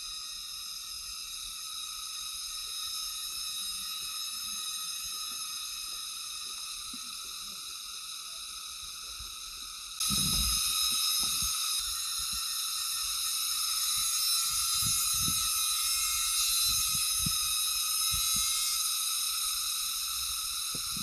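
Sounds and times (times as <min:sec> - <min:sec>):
buzzing insect chorus: 0:00.0 - 0:21.0.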